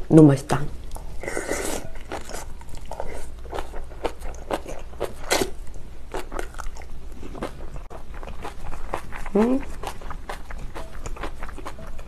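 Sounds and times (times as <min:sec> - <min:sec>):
crunchy chewing: 0:00.9 - 0:12.0.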